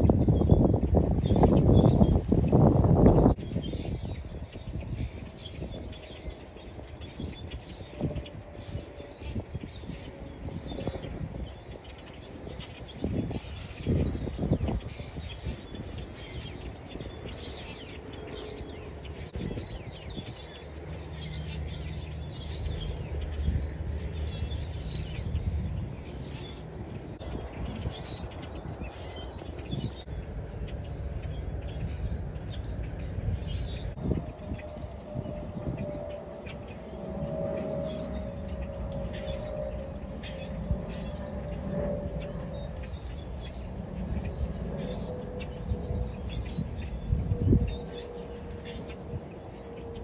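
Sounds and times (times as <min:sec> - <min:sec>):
flock of small birds chirping: 0:00.0 - 0:50.0
steady mechanical hum: 0:00.0 - 0:50.0.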